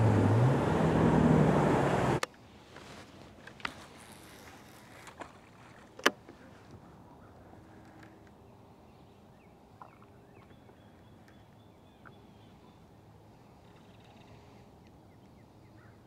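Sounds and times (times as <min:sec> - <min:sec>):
light wind: 0:00.0 - 0:16.0.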